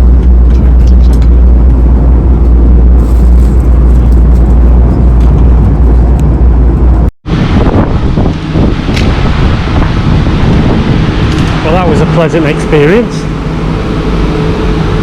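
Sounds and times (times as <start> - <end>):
moving train rumbling: 0.0 - 15.0.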